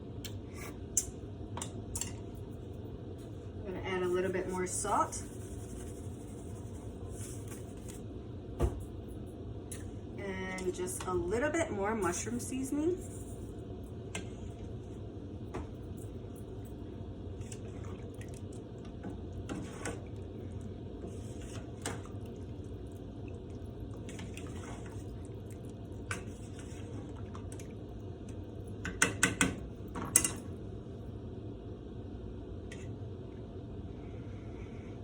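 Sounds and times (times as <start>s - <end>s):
broth boiling in a pot: 0.0s - 35.0s.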